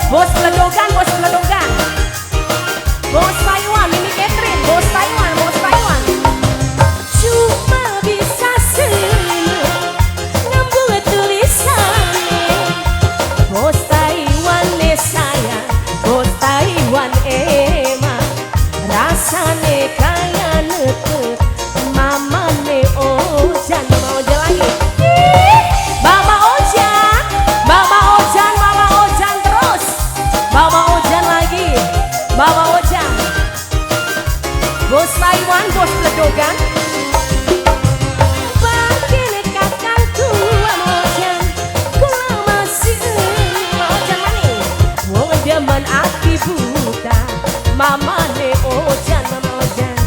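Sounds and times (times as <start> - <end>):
wavering melody line: 0.0 - 16.7, 23.7 - 47.2
band playing live: 0.0 - 50.0
drum and bass beat: 0.0 - 50.0.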